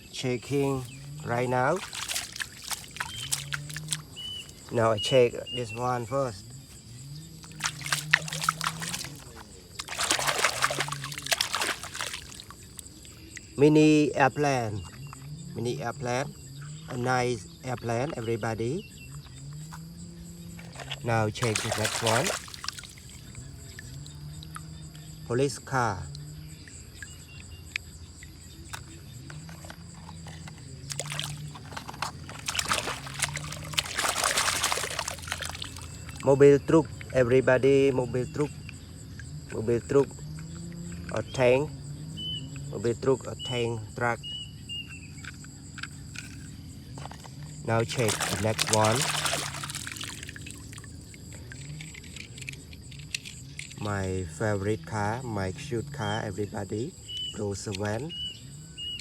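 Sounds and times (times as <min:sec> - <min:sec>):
water trickling and sloshing: 0:00.0 - 0:59.0.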